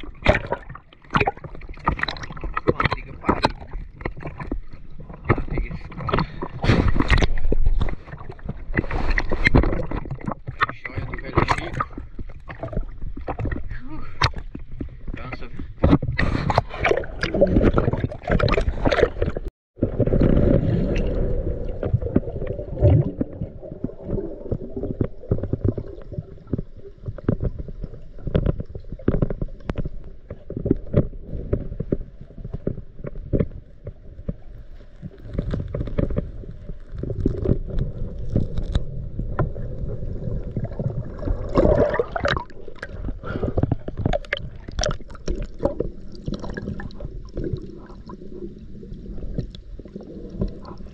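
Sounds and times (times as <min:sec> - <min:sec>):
small underwater clicks and knocks: 0:00.0 - 0:20.4, 0:21.8 - 0:50.9
muffled underwater rush: 0:00.0 - 0:50.9.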